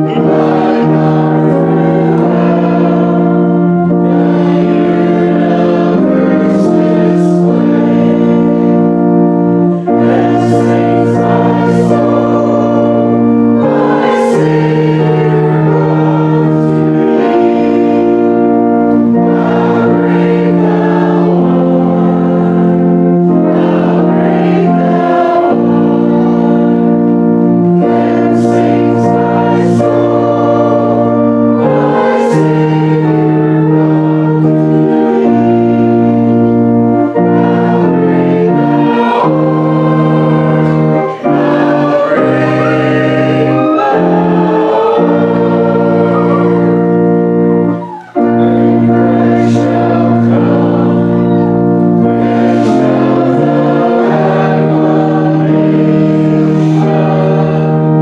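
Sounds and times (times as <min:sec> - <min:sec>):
congregation singing a hymn: 0:00.0 - 0:58.0
organ accompaniment: 0:00.0 - 0:58.0.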